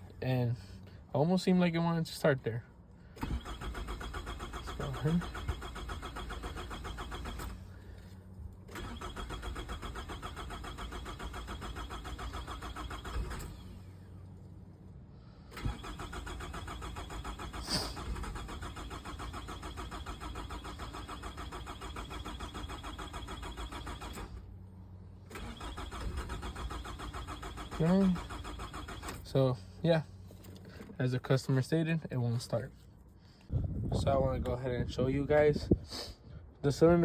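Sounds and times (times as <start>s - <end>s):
car engine cranking: 3.0s - 14.6s, 15.4s - 33.5s.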